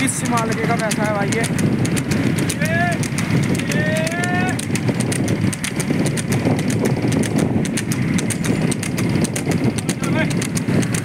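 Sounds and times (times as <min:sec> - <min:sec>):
cart rolling on road: 0:00.0 - 0:11.0
hooves clopping on asphalt: 0:00.0 - 0:11.0.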